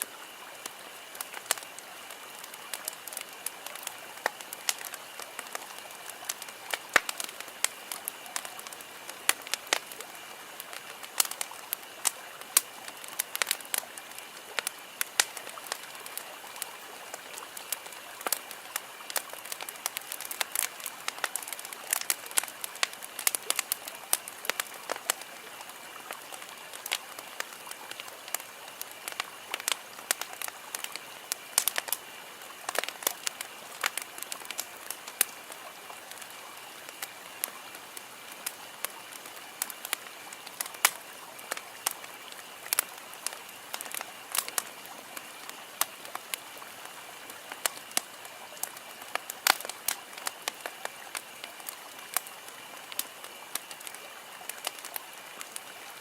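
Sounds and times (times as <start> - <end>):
campfire crackling and popping: 0.0 - 56.0
soft steady hiss: 0.0 - 56.0.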